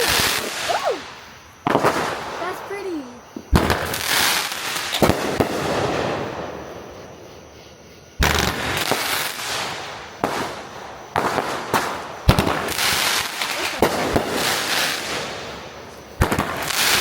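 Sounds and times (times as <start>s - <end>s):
fireworks bangs: 0.0s - 6.9s, 8.2s - 17.0s
fireworks crackling: 0.0s - 6.9s, 8.2s - 17.0s.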